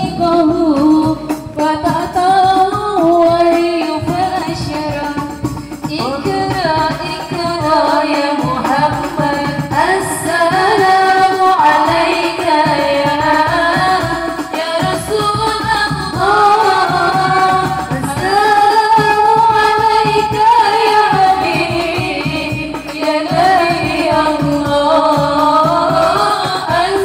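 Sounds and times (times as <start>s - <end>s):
voices singing along: 0.0s - 27.0s
woman singing into a microphone: 0.0s - 27.0s.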